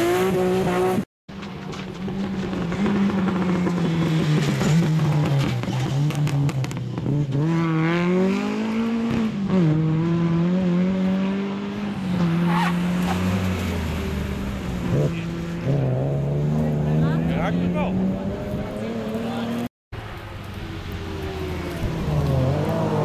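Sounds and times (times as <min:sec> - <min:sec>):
rally car engine revving hard: 0:00.0 - 0:01.0, 0:02.1 - 0:19.7, 0:21.8 - 0:23.0.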